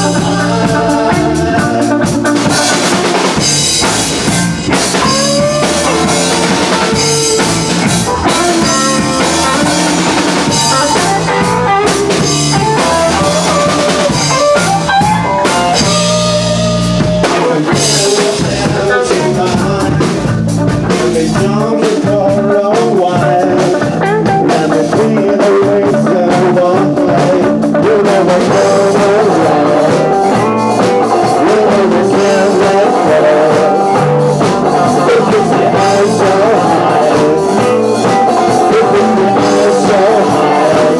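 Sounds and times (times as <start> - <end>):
man singing: 0.0 - 3.7, 4.6 - 40.9
live rock band: 0.0 - 40.9.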